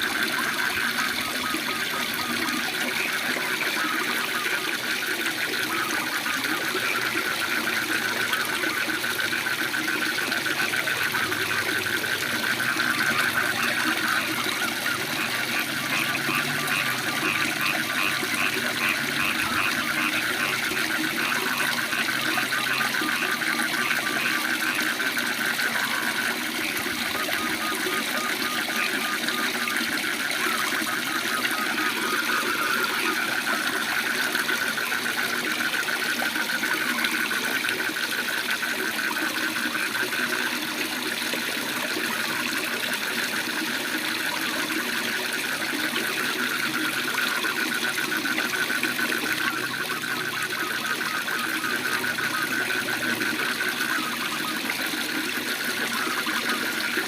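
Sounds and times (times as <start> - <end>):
pulsing frog calls: 0.0 - 57.0
waterfall running: 0.0 - 57.0.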